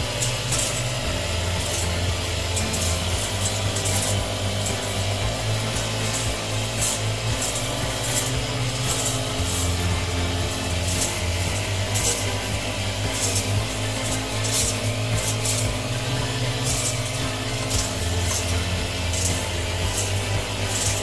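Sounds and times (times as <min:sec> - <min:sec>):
rasping cutting strokes: 0:00.0 - 0:21.0
trimming tool humming: 0:00.0 - 0:21.0.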